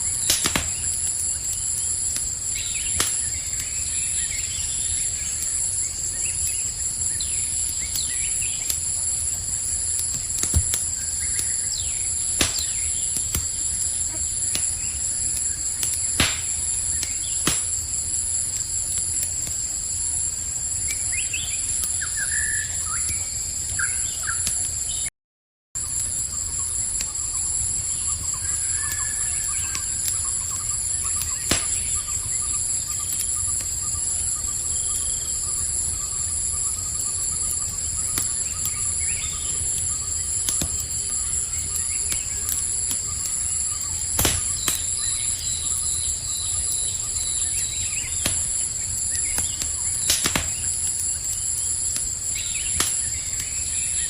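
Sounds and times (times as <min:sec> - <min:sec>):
campfire crackling and popping: 0:00.0 - 0:24.9, 0:25.9 - 0:54.0
crickets trilling: 0:00.0 - 0:25.1, 0:25.8 - 0:54.0.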